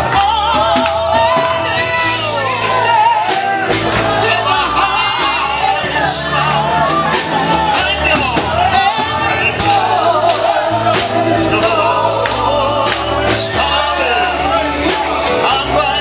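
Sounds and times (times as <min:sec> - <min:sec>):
gospel singing over a band: 0:00.0 - 0:16.0.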